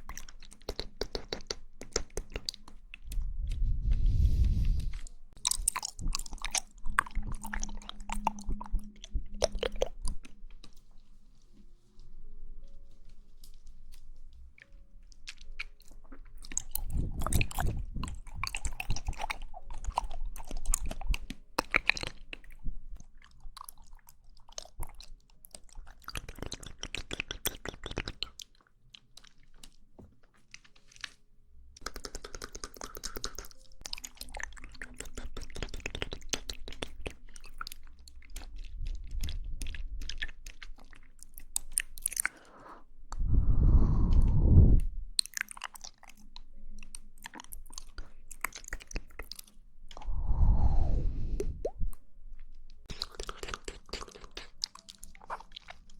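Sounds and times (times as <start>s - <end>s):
chewing jelly wet clicks: 0.0s - 3.6s, 4.9s - 11.0s, 14.6s - 43.3s, 45.1s - 50.1s, 51.4s - 55.9s.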